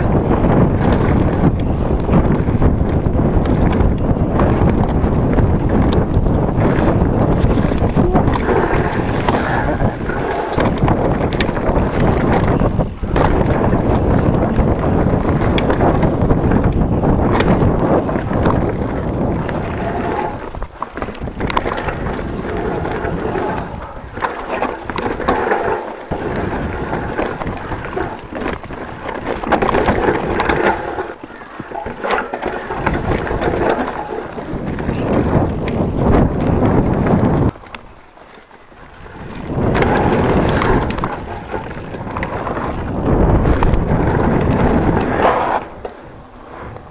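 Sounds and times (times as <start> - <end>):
bike chain and frame rattling: 0.0 - 45.6
bike tyres rumbling over dirt: 0.0 - 46.9
wind buffeting microphone: 0.0 - 46.9.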